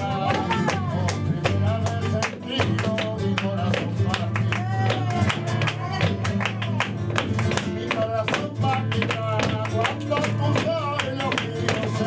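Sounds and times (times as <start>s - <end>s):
flamenco guitar: 0.0s - 12.0s
person singing: 0.0s - 12.0s.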